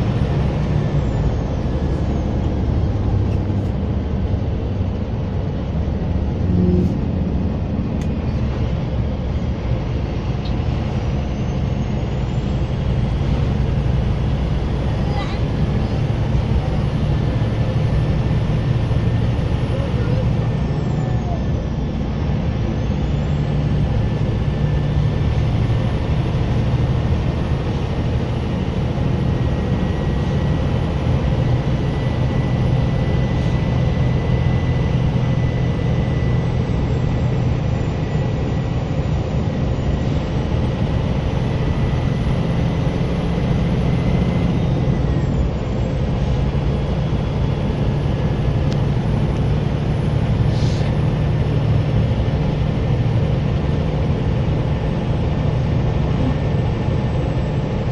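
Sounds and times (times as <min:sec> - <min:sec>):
bus diesel engine droning: 0:00.0 - 0:57.9.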